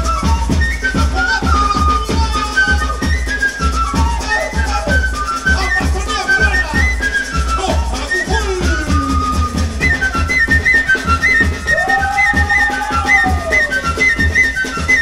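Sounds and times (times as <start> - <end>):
fast low drum beat: 0.0 - 15.0
high flute melody: 0.0 - 15.0.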